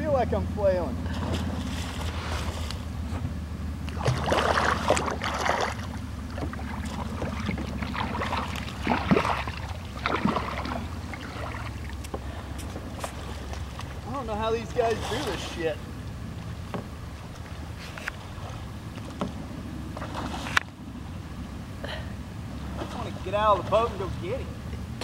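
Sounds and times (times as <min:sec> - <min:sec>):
steady low rumble: 0:00.0 - 0:25.0
water splashing around kayak: 0:00.0 - 0:25.0.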